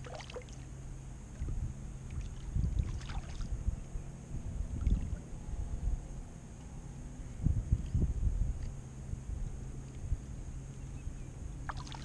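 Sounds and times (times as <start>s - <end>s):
wind on microphone: 1.3s - 6.2s, 7.2s - 12.0s.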